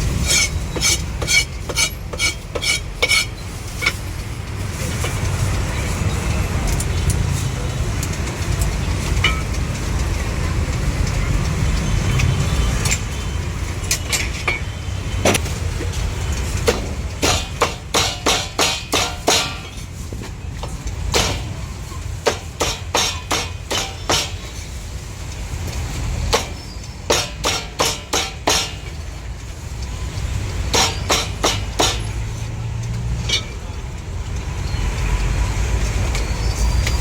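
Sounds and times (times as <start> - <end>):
low traffic rumble: 0.0 - 37.0.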